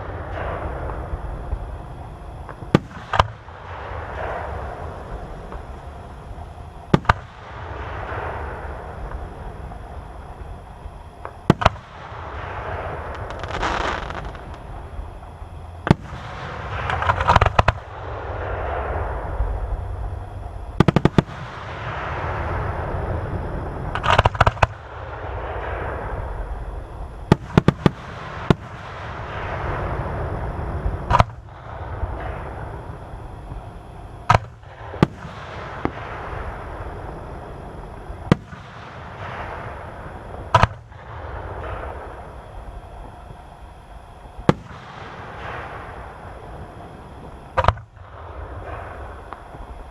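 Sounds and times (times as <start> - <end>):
fireworks bursting with sharp bangs: 0.0 - 49.9
steady low rumble: 0.0 - 49.9.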